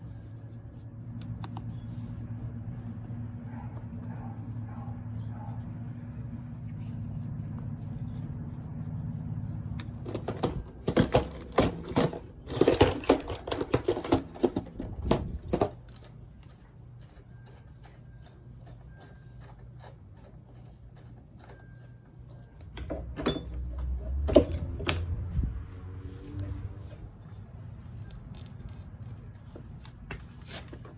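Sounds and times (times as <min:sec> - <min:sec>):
hand tools and metal parts clattering: 0:00.0 - 0:25.5, 0:26.3 - 0:30.9.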